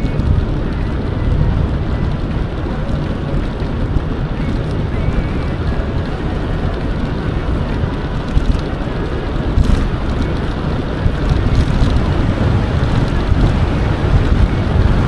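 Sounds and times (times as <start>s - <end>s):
faint bike ticks: 0.0s - 15.0s
wind buffeting microphone: 0.0s - 15.0s.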